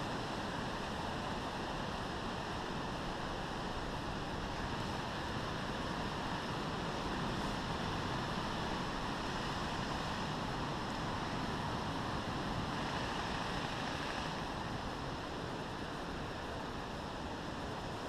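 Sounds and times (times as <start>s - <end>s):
wind hiss on microphone: 0.0s - 18.0s.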